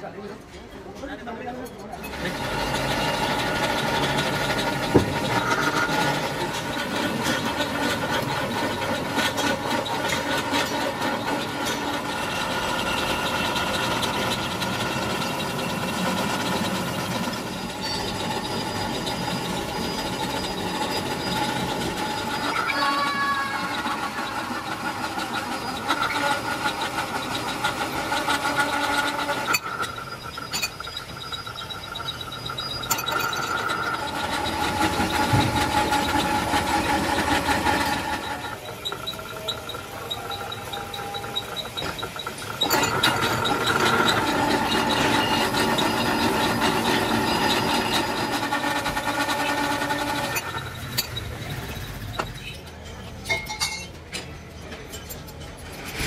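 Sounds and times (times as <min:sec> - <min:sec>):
drill press cutting squeal: 0:01.6 - 0:53.2.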